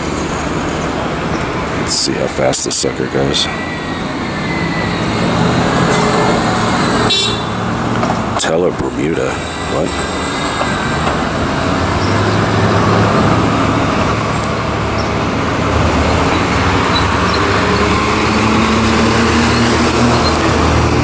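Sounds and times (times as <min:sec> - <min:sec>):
street traffic road noise: 0:00.0 - 0:21.0
vehicle engine humming nearby: 0:00.0 - 0:21.0.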